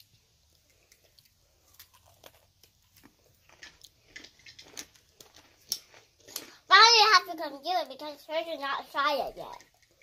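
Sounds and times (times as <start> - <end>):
cookie crunching: 0.0 - 10.0.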